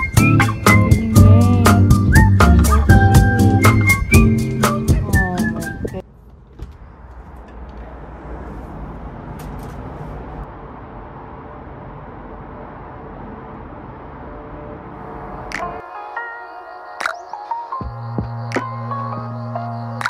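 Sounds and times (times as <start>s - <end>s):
city traffic hum: 0.0s - 20.0s.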